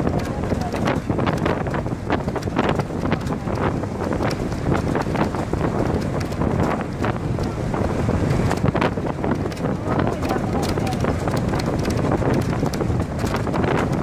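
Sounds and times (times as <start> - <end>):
bus road and engine noise: 0.0 - 14.0
wind buffeting microphone: 0.0 - 14.0.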